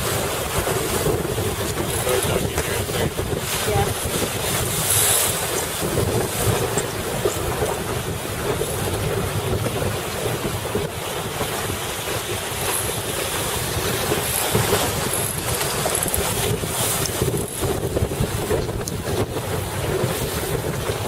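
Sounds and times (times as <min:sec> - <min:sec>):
water rushing along hull: 0:00.0 - 0:21.0
wind buffeting microphone: 0:00.0 - 0:21.0.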